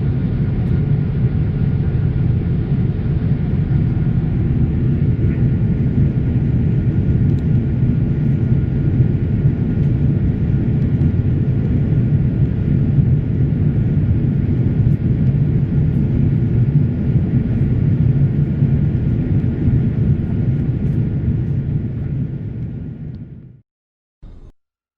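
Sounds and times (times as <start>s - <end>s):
jet engines droning: 0.0s - 23.6s.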